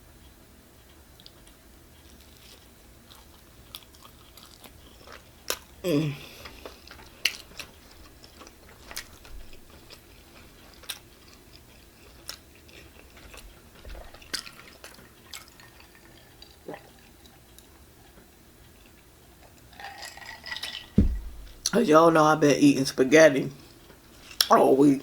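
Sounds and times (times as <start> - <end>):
chewing pizza: 0.2 - 21.7, 23.6 - 25.0.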